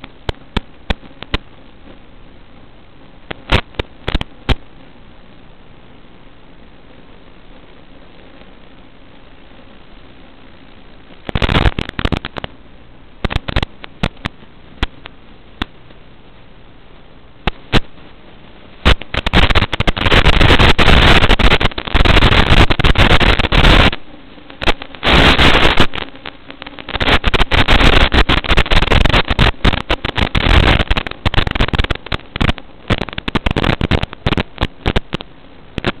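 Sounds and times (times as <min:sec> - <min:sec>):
loud crackling static: 0:00.0 - 0:36.0
steady low hiss: 0:00.0 - 0:36.0.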